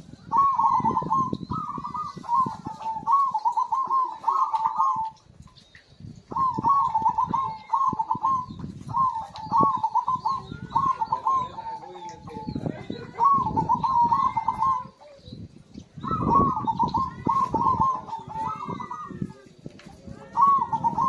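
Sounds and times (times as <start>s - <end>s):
dove cooing: 0.0s - 5.2s, 6.3s - 15.3s, 16.0s - 19.4s, 20.0s - 21.0s.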